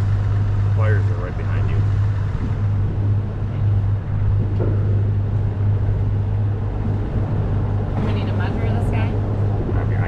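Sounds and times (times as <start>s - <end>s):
low machine hum: 0.0s - 10.0s
wind and water noise: 0.0s - 10.0s.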